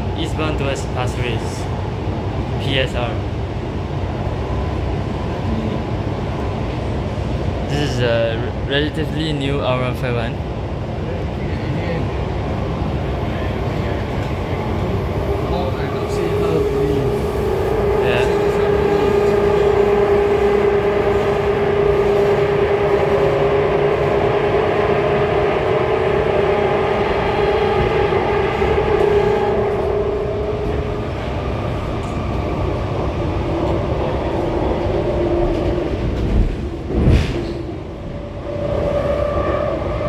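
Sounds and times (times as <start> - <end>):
train rolling noise: 0.0 - 40.0.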